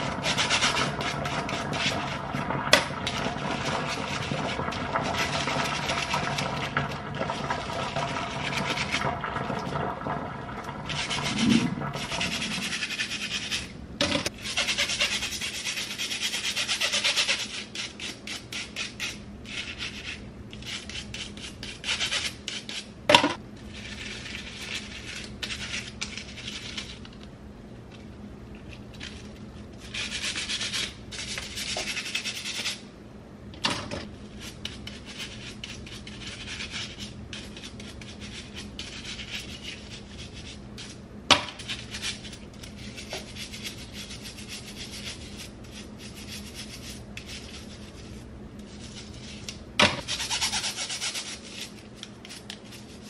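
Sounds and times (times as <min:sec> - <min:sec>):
brush scrubbing a comb: 0:00.0 - 0:02.5, 0:03.1 - 0:09.0, 0:10.8 - 0:13.7, 0:14.3 - 0:22.9, 0:23.6 - 0:27.2, 0:29.0 - 0:32.8, 0:34.2 - 0:53.0.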